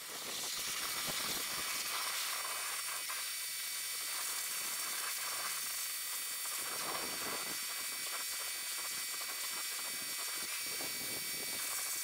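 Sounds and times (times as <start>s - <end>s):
pressure washer water jet hissing: 0.0s - 12.0s.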